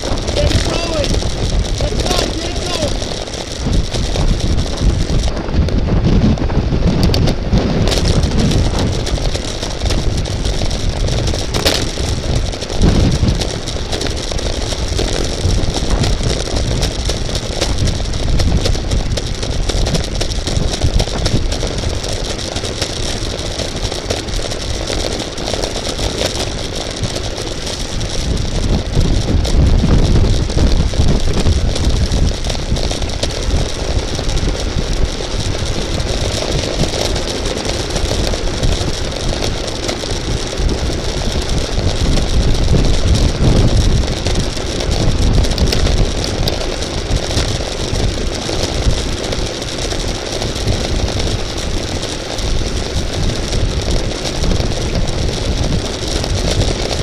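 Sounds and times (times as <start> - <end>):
road noise rumble: 0.0 - 57.0
wind buffeting microphone: 0.0 - 57.0.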